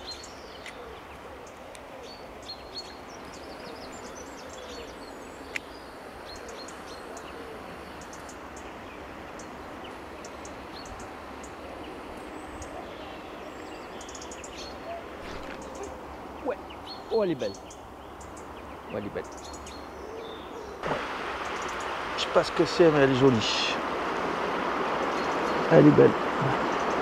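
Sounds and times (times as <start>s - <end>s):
small birds chirping: 0.0s - 23.8s, 25.0s - 27.0s
river water flowing: 0.0s - 27.0s.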